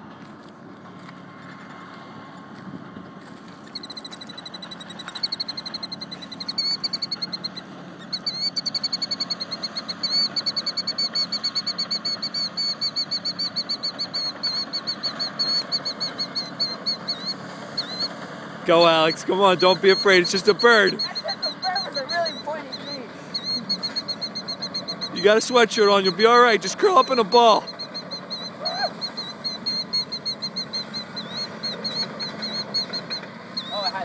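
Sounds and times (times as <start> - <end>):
bird alarm calls: 3.7 - 34.0.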